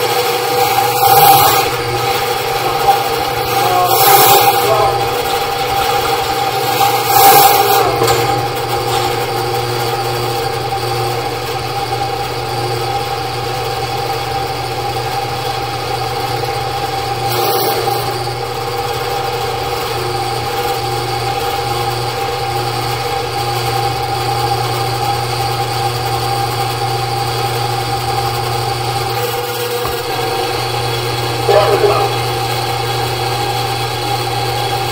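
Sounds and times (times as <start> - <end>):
drain machine motor humming: 0.0 - 34.9.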